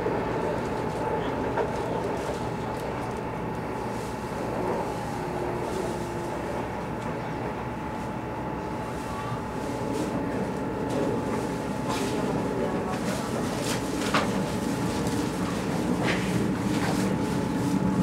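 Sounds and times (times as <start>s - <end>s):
constant hum: 0.0s - 18.0s
train interior rumble: 0.0s - 18.0s.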